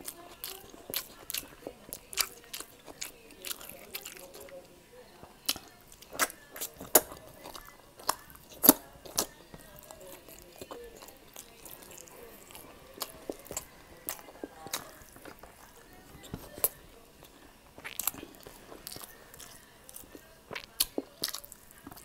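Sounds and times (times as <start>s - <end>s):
person chewing with wet smacks: 0.0s - 22.0s.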